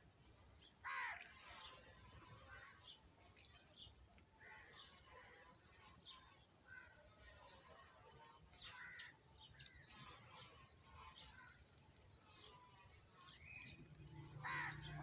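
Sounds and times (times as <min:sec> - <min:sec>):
sparrows chirping: 0:01.4 - 0:15.0.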